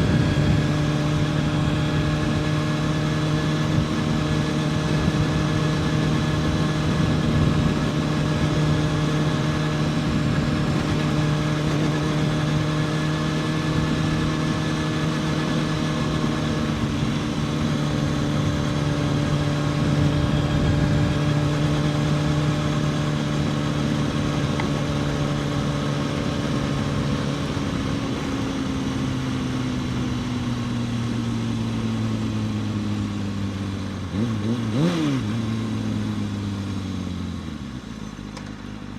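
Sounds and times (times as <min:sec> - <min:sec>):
motorcycle engine cruising: 0:00.0 - 0:38.9
rushing wind and road noise: 0:00.0 - 0:38.9.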